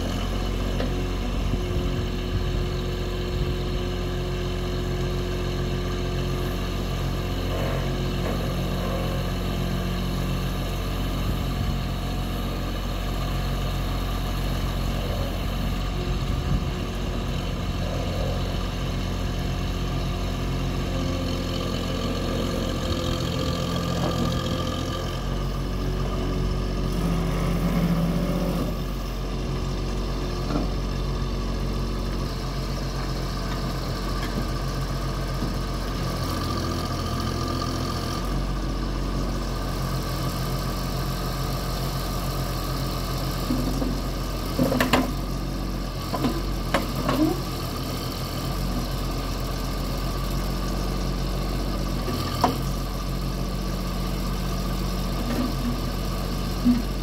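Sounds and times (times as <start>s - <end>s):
loader engine idling: 0.0s - 57.0s.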